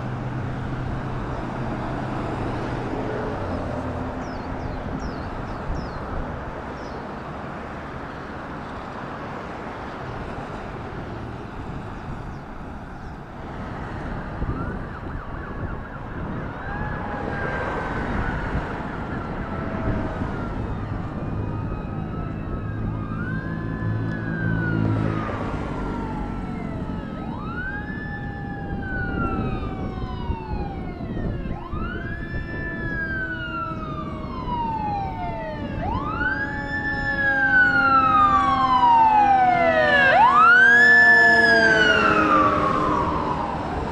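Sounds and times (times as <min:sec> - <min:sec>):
fire engine siren wailing: 0:00.0 - 0:06.7, 0:07.5 - 0:43.9
traffic noise: 0:00.0 - 0:43.9.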